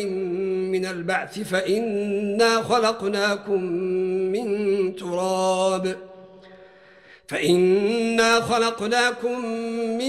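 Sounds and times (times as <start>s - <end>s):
man reciting in chant: 0.0s - 6.4s, 7.2s - 10.0s.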